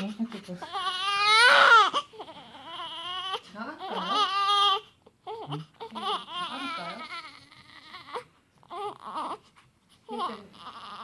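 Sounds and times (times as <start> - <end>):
baby crying: 0.6 - 9.5, 10.1 - 11.0.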